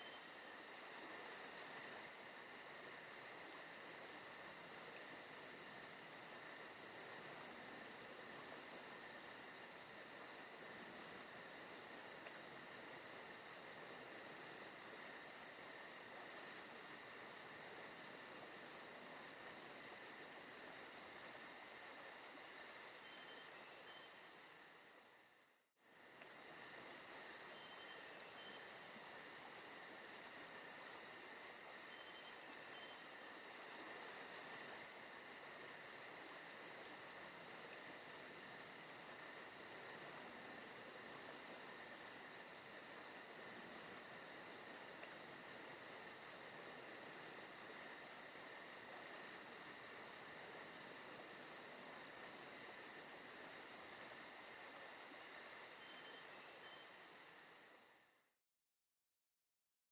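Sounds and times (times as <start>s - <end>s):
insects chirping: 0.0s - 58.2s.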